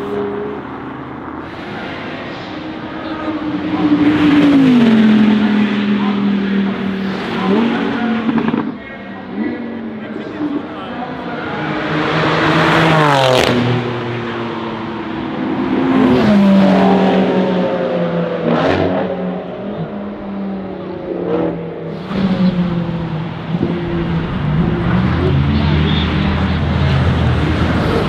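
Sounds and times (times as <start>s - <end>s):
engines revving: 0.0s - 28.0s
race car engines passing at speed: 0.0s - 28.0s.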